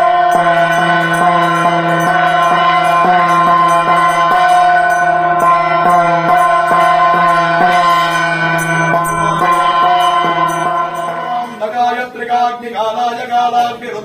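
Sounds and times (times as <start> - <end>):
devotional music with drone: 0.0 - 11.9
regular beat: 0.0 - 12.6.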